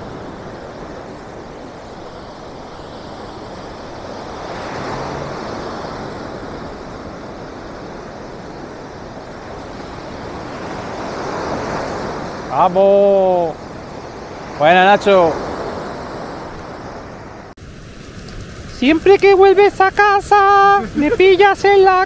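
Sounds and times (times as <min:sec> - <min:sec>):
surf breaking on a beach: 0:00.0 - 0:22.0.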